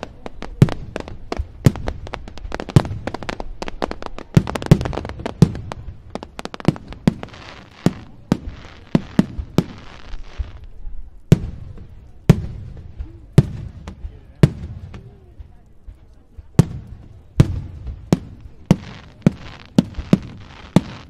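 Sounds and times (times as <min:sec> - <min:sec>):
firework bangs: 0:00.0 - 0:21.0
firework hiss: 0:00.0 - 0:21.0.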